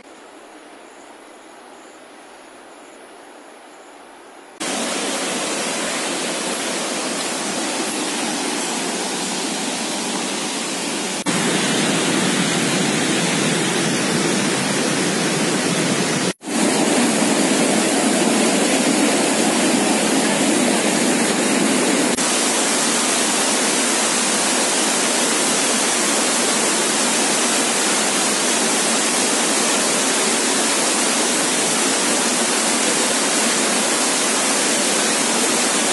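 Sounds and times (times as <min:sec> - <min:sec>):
rushing water: 0:04.5 - 0:35.9.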